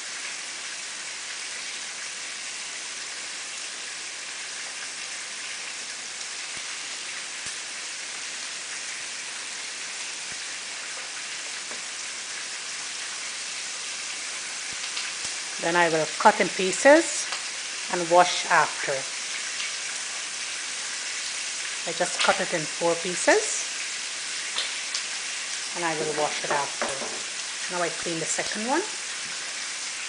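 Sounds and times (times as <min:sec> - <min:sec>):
fish frying in hot oil: 0:00.0 - 0:30.0.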